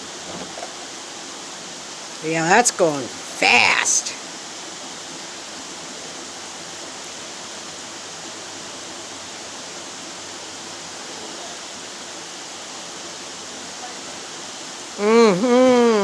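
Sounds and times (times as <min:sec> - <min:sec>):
floodwater rushing in creek: 0:00.0 - 0:16.0
heavy rain hissing: 0:00.0 - 0:16.0.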